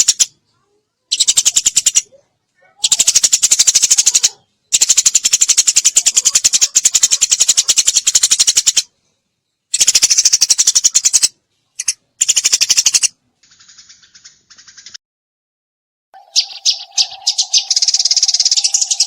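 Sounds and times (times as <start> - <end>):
sparrow rattling chatter: 0.0 - 8.9, 9.7 - 15.0, 16.2 - 19.0.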